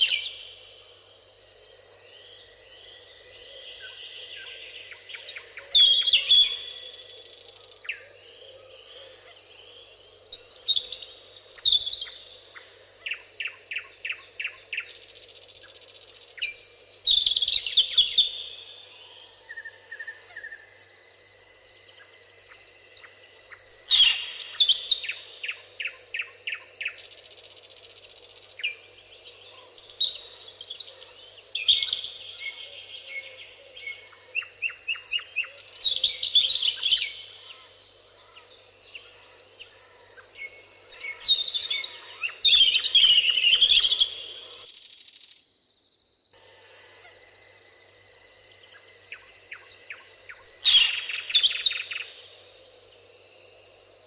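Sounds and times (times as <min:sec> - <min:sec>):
songbirds singing: 0:00.0 - 0:45.6, 0:46.4 - 0:54.0.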